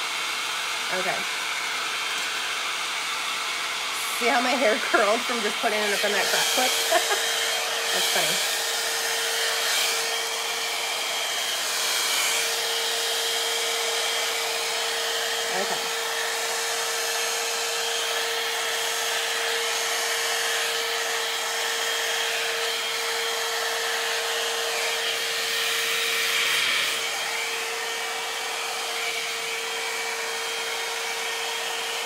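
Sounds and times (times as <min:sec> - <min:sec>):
blow-dry brush running: 0:00.0 - 0:32.0.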